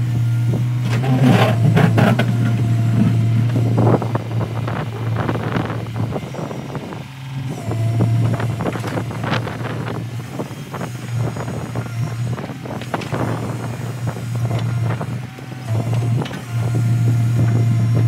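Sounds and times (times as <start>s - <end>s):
excavator diesel engine droning: 0.0s - 18.0s.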